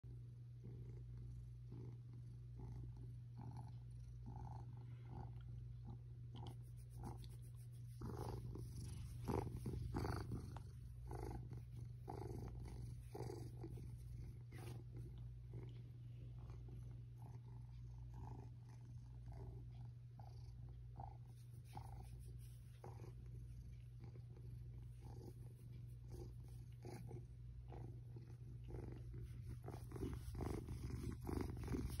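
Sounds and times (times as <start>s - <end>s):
cat purring: 0.1s - 32.0s.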